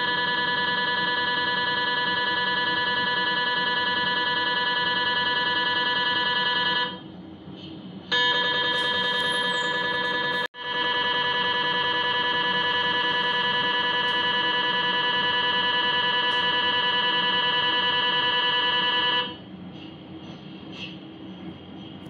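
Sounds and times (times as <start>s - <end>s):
mri scanner buzzing: 0.0s - 7.1s, 8.1s - 19.5s.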